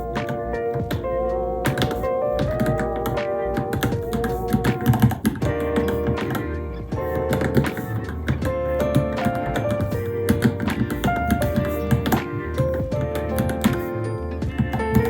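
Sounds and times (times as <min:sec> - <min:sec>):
background music with held notes: 0:00.0 - 0:15.0
mechanical keyboard keys clacking: 0:00.2 - 0:13.8, 0:14.6 - 0:15.0.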